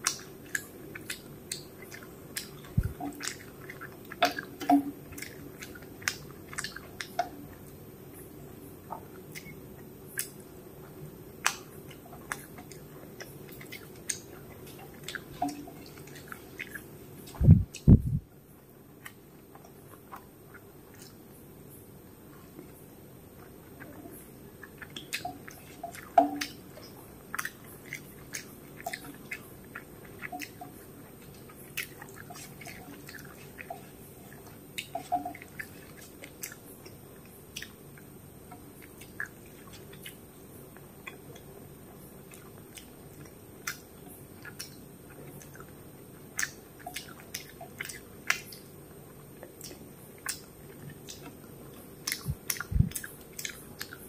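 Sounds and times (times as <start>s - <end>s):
person chewing food: 0.0s - 18.2s, 18.9s - 54.0s.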